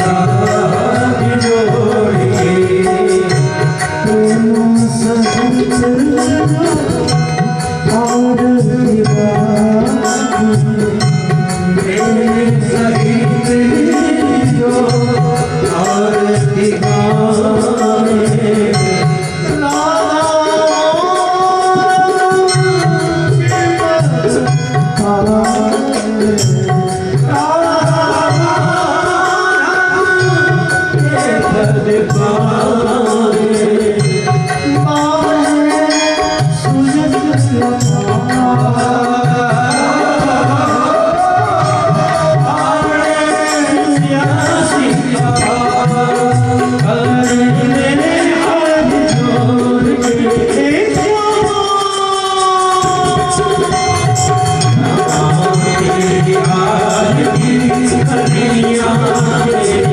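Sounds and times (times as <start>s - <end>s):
tabla rhythm: 0.0s - 59.9s.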